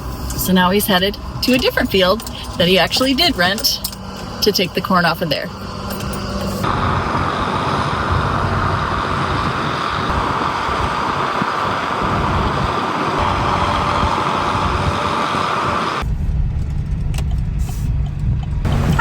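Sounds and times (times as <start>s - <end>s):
road noise: 0.0s - 19.0s
vehicle engine: 0.0s - 19.0s.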